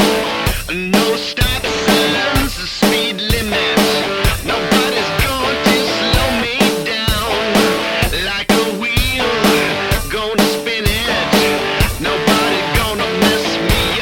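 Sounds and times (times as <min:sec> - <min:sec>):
drum kit and guitar music: 0:00.0 - 0:14.0.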